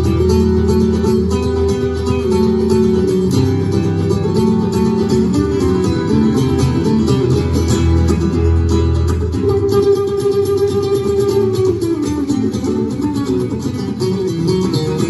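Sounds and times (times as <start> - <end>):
acoustic guitar duet: 0.0 - 15.0.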